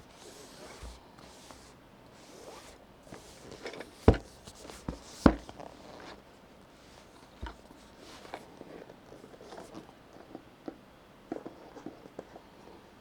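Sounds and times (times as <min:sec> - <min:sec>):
soft rubbing and rustling: 0:00.0 - 0:10.4.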